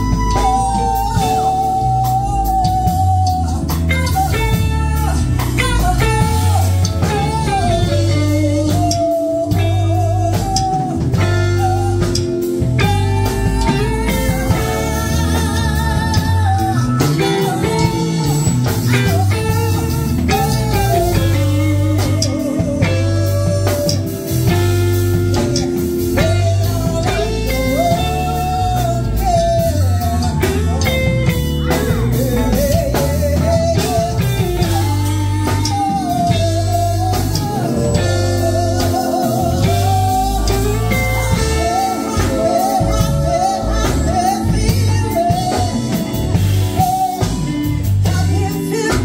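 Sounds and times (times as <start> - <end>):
bass line: 0.0 - 49.0
guitar: 0.0 - 49.0
live blues band: 0.0 - 49.0.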